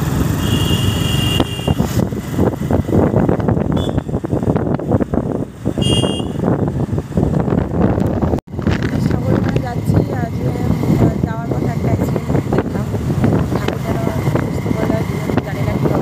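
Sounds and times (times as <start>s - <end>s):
motorbike engine running: 0.0s - 16.0s
wind buffeting microphone: 1.6s - 16.0s.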